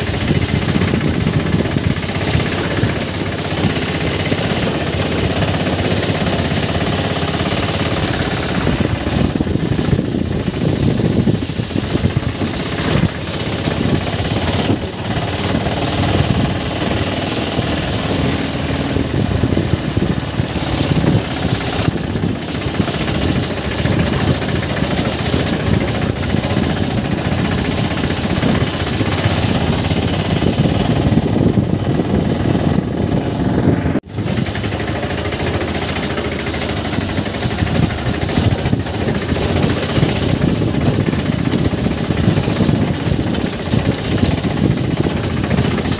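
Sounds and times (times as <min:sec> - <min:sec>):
motorcycle engine running: 0:00.0 - 0:45.9
road and wind noise: 0:00.0 - 0:45.9.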